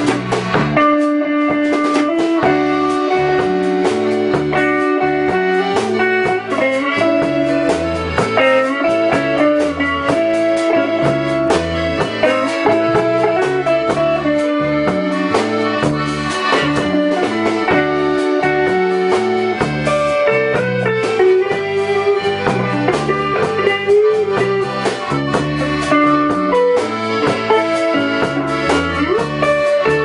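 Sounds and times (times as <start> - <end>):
accordion: 0.0 - 30.0
drum kit beat: 0.0 - 30.0
electric bass: 0.0 - 30.0
electric guitar: 0.0 - 30.0.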